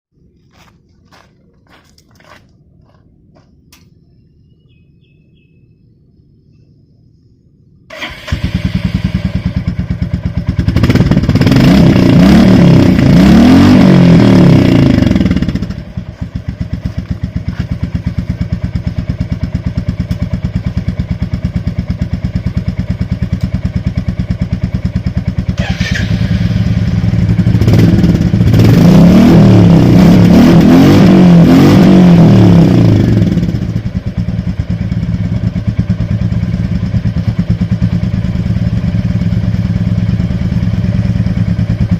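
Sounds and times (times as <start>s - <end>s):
motorcycle engine idling and revving: 6.8s - 41.9s.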